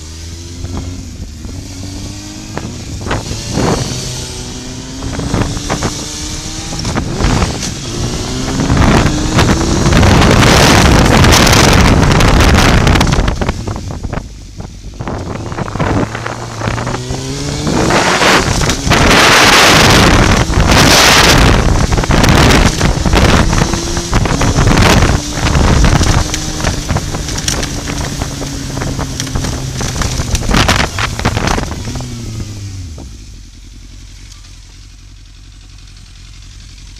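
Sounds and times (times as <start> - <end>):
motorcycle engine accelerating: 0.0 - 36.9
wind buffeting on microphone: 0.6 - 33.2.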